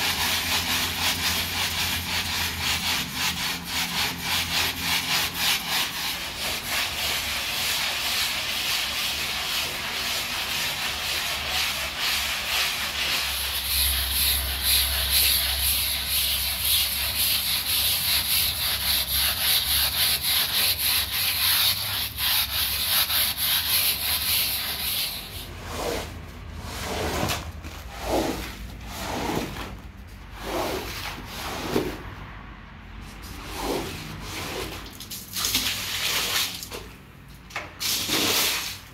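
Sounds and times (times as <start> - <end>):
scrub brush scrubbing wet rug: 0.0 - 32.1, 33.1 - 37.0, 37.8 - 38.9.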